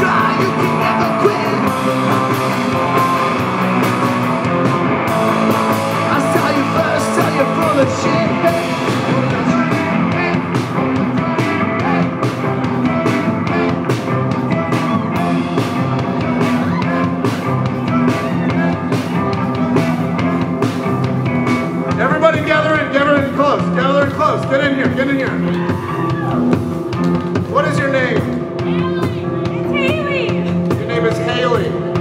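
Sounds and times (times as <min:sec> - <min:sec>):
drum beat: 0:00.0 - 0:32.0
electric guitars: 0:00.0 - 0:32.0.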